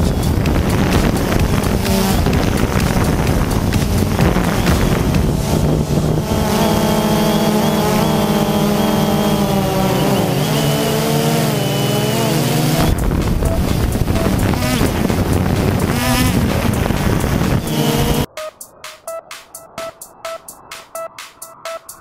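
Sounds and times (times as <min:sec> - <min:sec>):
wind noise on microphone: 0:00.0 - 0:18.3
drone propellers buzzing: 0:00.0 - 0:22.0.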